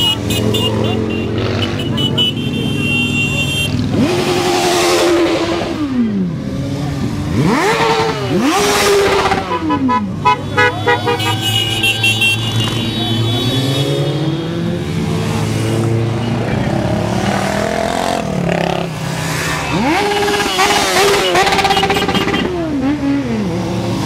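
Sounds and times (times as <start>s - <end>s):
motorcycle engine revving: 0.0s - 10.2s, 12.4s - 24.0s.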